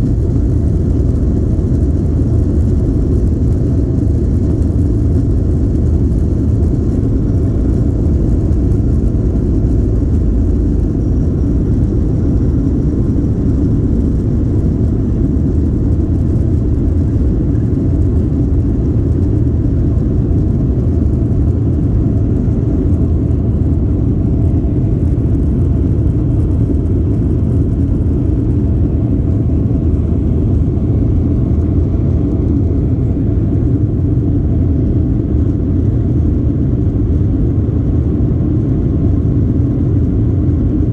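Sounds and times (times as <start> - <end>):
airliner cabin engine rumble: 0.0 - 40.9
faint steady hum: 0.0 - 40.9.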